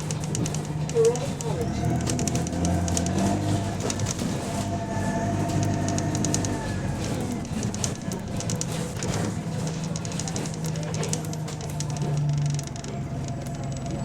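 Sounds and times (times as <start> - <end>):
bus engine humming: 0.0 - 14.0
rapid high ticking: 0.0 - 14.0.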